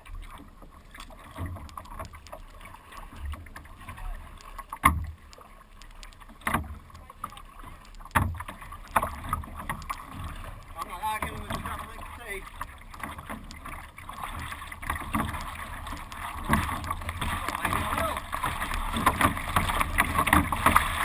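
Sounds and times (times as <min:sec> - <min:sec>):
water lapping against hull: 0:00.0 - 0:21.0
water slapping hull: 0:00.0 - 0:21.0.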